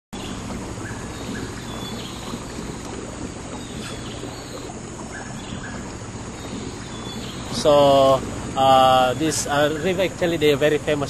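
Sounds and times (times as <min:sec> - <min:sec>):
boat motor running: 0:00.2 - 0:11.0.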